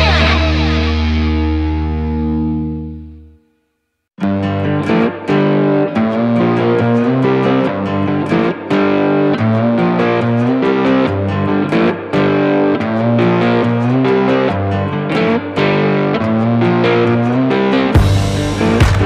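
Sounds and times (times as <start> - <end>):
guitar-led instrumental music: 0.0 - 3.5, 4.2 - 19.0.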